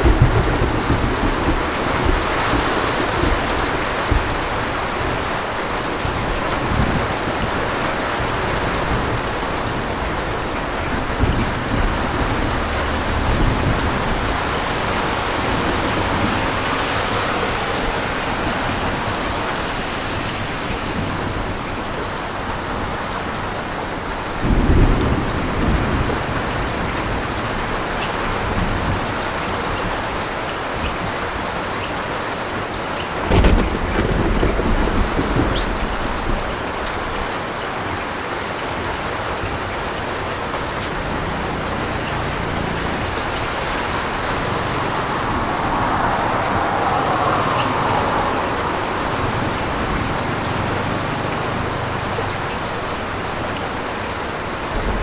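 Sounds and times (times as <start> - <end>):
thunder rumbling: 0.0 - 30.9, 33.0 - 38.0, 38.7 - 55.0
heavy rain on surfaces: 0.0 - 55.0.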